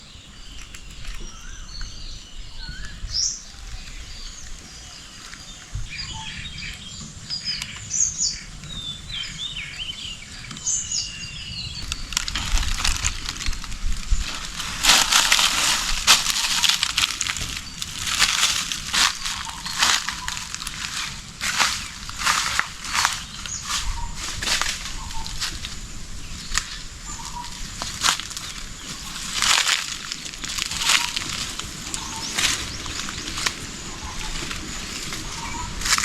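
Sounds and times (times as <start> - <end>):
birds chirping and calling: 0.0 - 36.0
rustling and crunching: 0.0 - 36.0.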